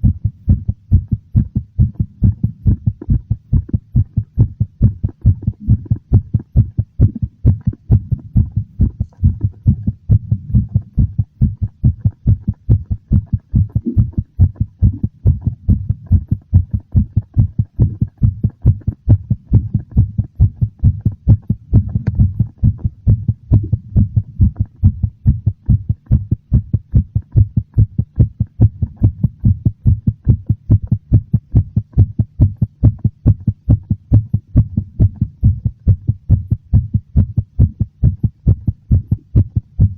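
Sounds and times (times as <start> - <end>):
human heartbeat: 0.0 - 39.9.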